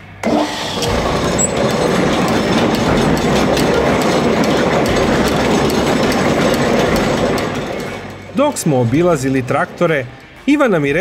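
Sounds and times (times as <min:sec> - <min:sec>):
wooden machine rattling: 0:00.7 - 0:10.1.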